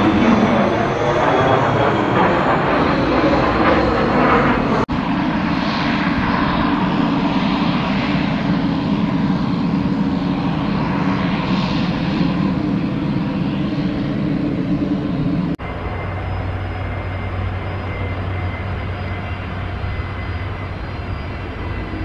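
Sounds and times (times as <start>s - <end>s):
turboprop engine drone: 0.0s - 22.0s.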